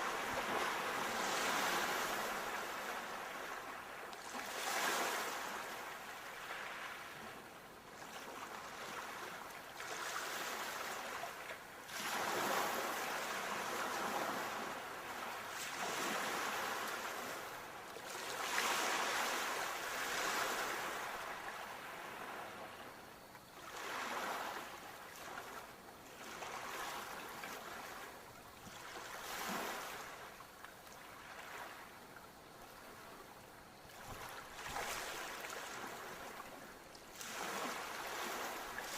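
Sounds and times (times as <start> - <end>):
ocean waves breaking on shore: 0.0 - 32.0, 32.7 - 38.9.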